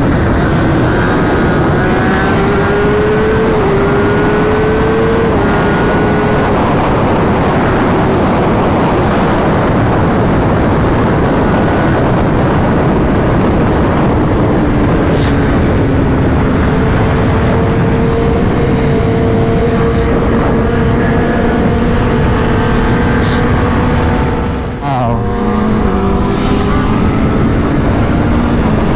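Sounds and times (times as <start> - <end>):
motorcycle engine cruising: 0.0 - 28.9
wind noise: 0.0 - 28.9.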